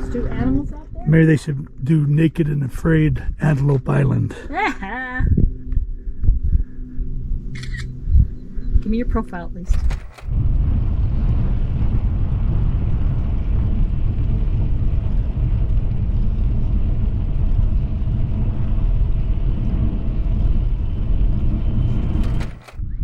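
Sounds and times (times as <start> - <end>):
low riding rumble: 0.0 - 23.0
wind buffeting microphone: 0.0 - 23.0.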